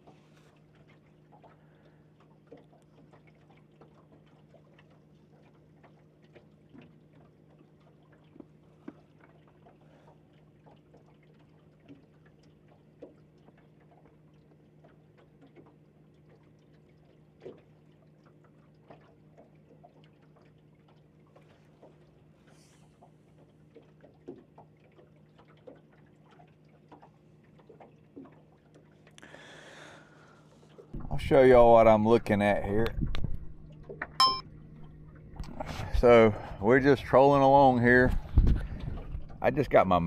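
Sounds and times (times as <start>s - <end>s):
soft water sounds: 0.0s - 40.0s.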